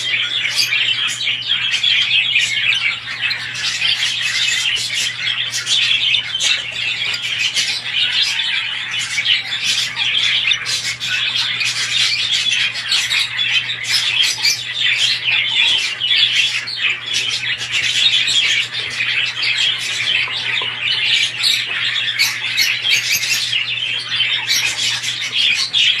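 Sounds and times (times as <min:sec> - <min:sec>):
budgerigars chattering and squawking: 0:00.0 - 0:26.0.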